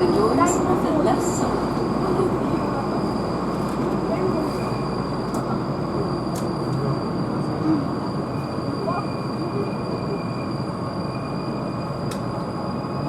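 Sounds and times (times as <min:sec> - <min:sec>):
high train whine: 0:00.0 - 0:13.0
train wheels rumbling on rail: 0:00.0 - 0:13.0.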